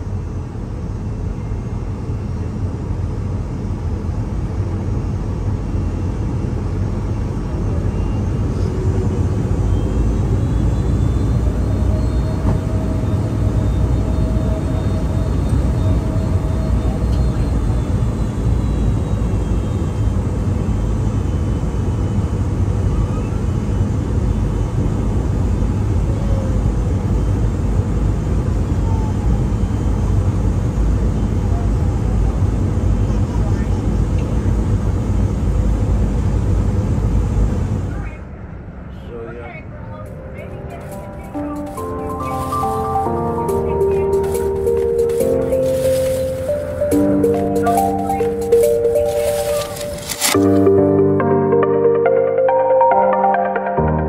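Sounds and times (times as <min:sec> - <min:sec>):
aircraft cabin low rumble: 0:00.0 - 0:50.7
faint engine whine: 0:00.0 - 0:52.5.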